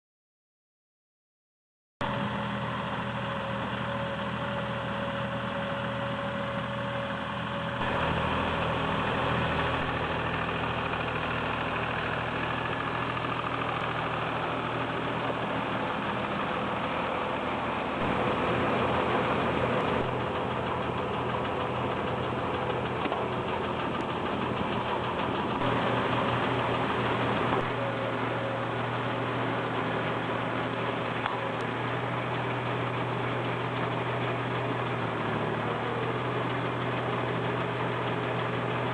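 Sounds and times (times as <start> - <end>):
tractor engine running: 2.0 - 38.9.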